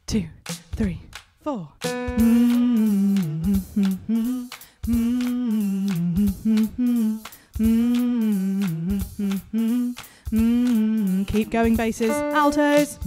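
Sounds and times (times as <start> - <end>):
woman humming: 2.1 - 13.0.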